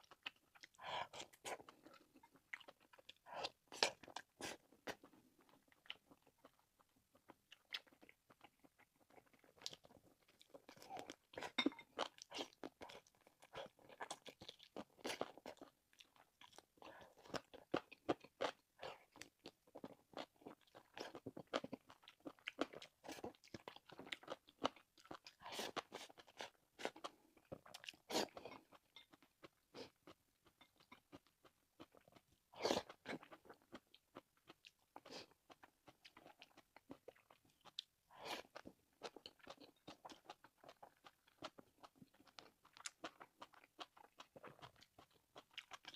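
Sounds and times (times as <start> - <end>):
person chewing meat: 0.0 - 45.9.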